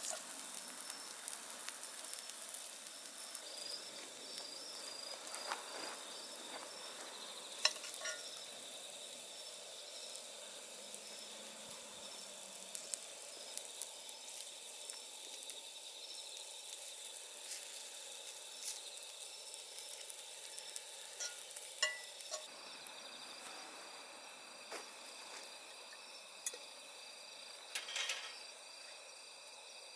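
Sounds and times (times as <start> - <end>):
wood fire crackling and popping: 0.0 - 28.8
steak sizzling: 0.0 - 29.9.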